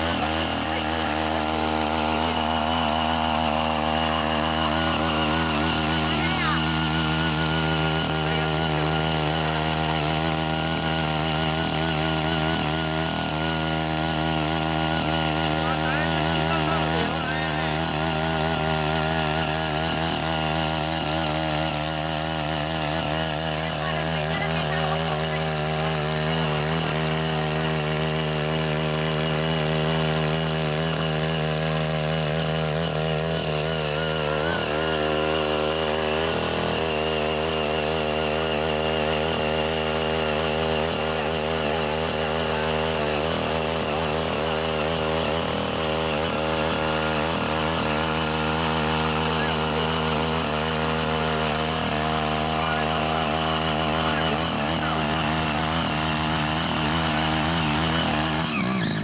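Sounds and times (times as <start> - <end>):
garden tiller engine running: 0.0 - 59.0.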